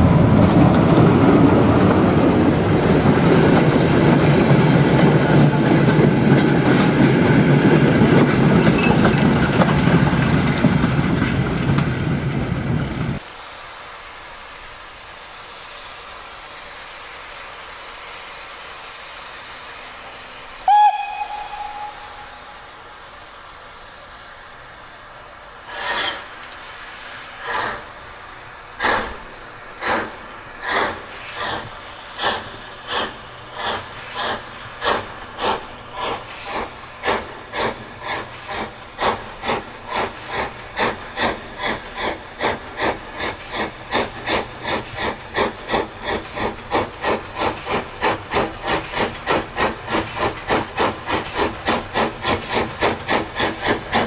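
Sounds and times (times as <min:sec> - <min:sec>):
steam locomotive exhaust chuffs: 0:00.0 - 0:54.0.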